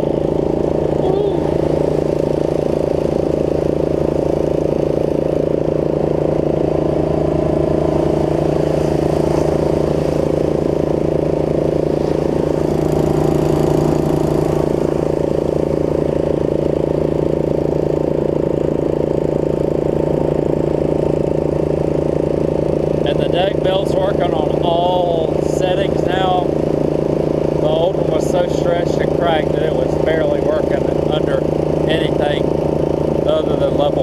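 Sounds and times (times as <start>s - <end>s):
riding mower engine running: 0.0s - 34.0s.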